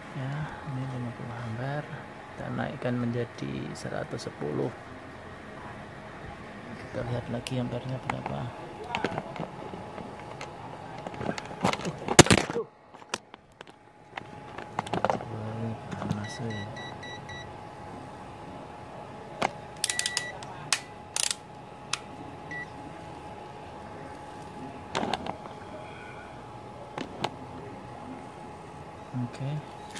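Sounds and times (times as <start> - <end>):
faint steady whine: 0.0 - 29.9.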